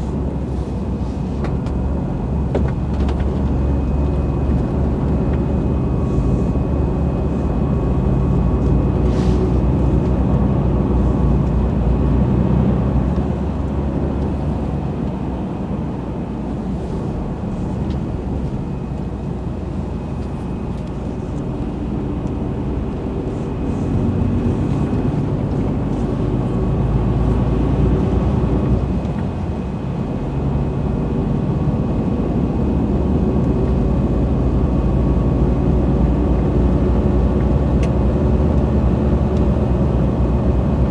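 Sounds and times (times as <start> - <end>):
truck engine drone: 0.0 - 40.9.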